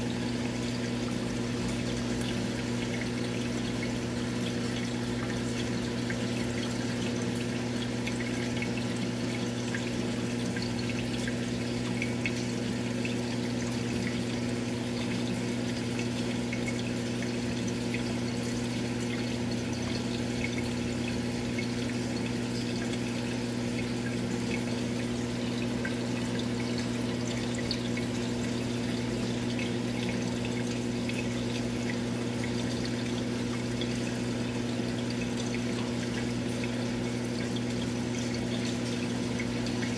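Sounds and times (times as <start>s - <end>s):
aquarium pump humming: 0.0s - 39.9s
water bubbling and trickling: 0.0s - 39.9s.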